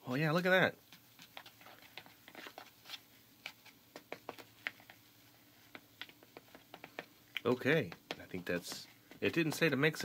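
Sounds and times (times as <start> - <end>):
plastic scoop stirring in bowl: 0.8 - 10.0.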